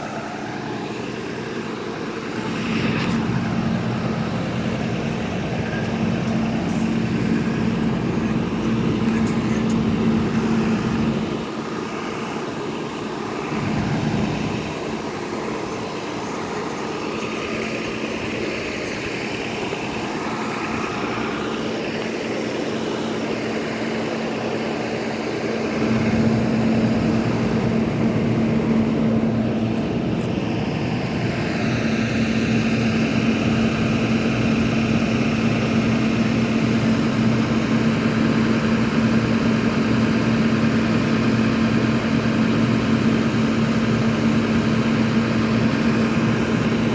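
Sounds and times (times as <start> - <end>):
engine running steadily: 0.0 - 46.9.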